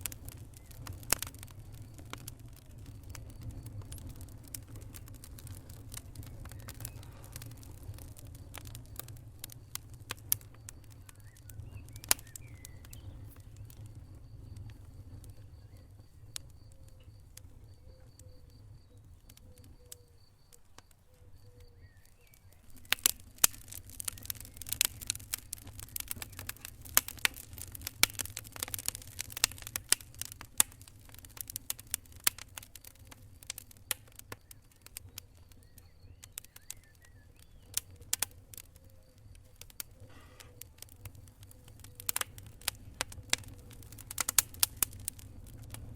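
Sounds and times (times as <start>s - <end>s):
fire crackling and popping: 0.0s - 45.9s
low rumble of flames: 0.0s - 45.9s.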